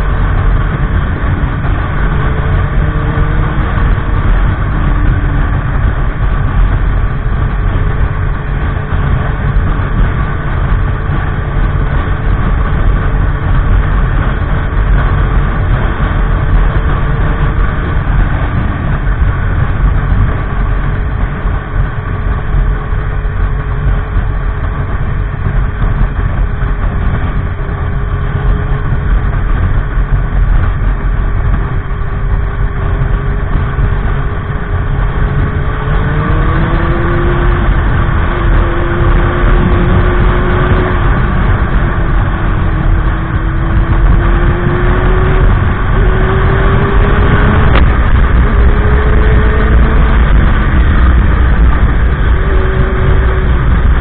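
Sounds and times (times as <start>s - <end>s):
faint drifting tone: 0.0s - 54.0s
motorcycle engine running: 0.0s - 54.0s.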